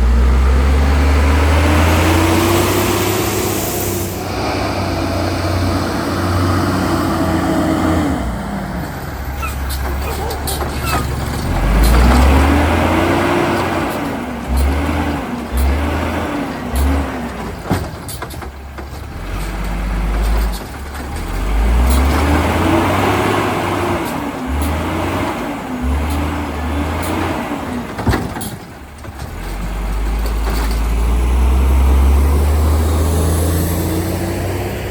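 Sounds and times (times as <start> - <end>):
garbage truck engine revving: 0.0 - 34.9.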